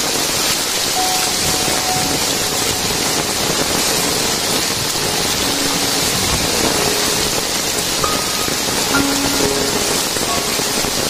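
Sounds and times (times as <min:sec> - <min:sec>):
floodwater rushing: 0:00.0 - 0:11.0
heavy rain: 0:00.0 - 0:11.0.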